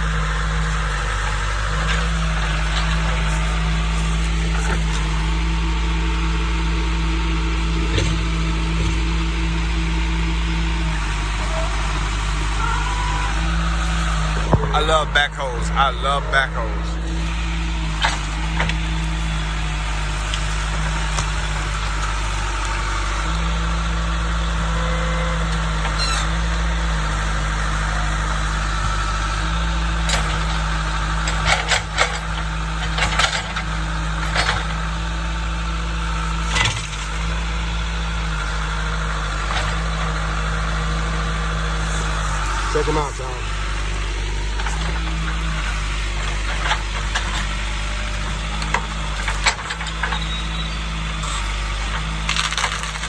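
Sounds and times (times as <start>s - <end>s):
backhoe diesel engine running: 0.0s - 53.0s.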